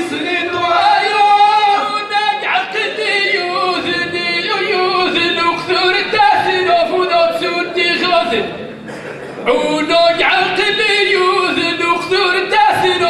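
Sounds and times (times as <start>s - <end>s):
man singing into a microphone: 0.0s - 8.7s, 9.4s - 13.0s.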